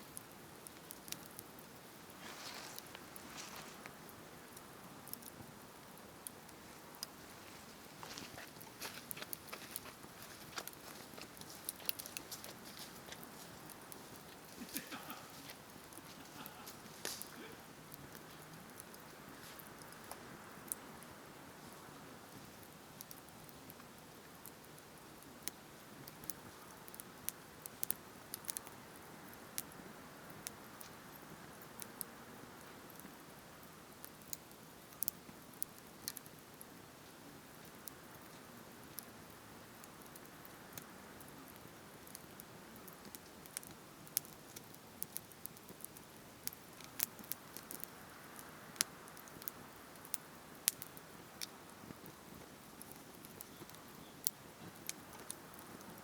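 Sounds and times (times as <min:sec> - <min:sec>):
campfire crackling: 0:00.0 - 0:56.0
faint steady hiss: 0:00.0 - 0:56.0.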